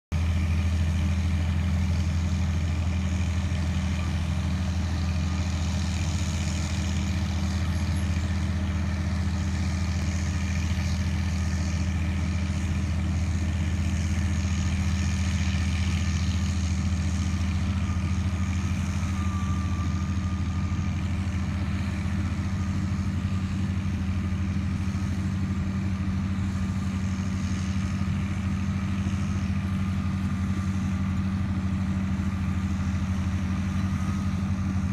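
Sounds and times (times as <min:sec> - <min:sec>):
diesel engine droning under load: 0:00.1 - 0:34.9.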